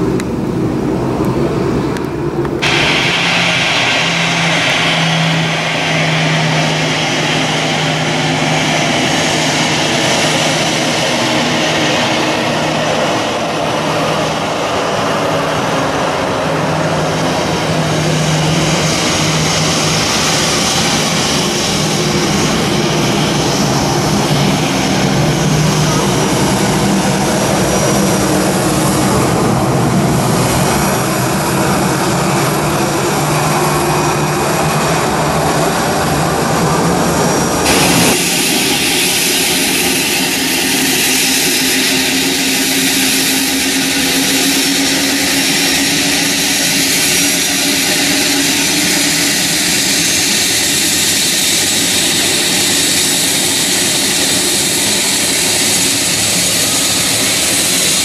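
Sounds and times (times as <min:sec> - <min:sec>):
helicopter turbine whine: 0:00.0 - 0:58.0
jet engines running: 0:00.0 - 0:58.0.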